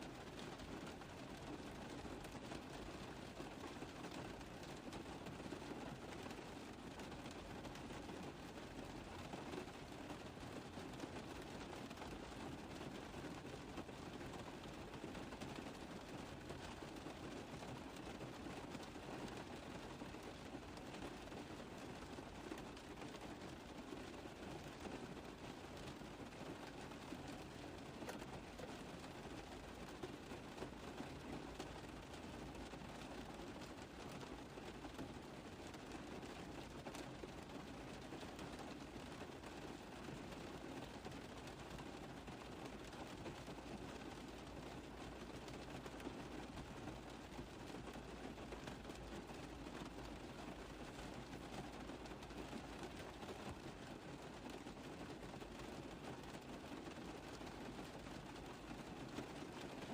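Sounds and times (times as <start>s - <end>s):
rain tapping on a car roof: 0.0s - 59.9s.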